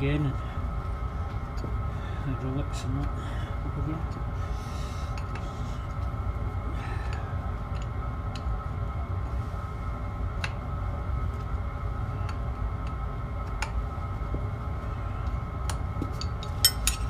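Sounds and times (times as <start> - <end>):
air heater humming: 0.0 - 17.0.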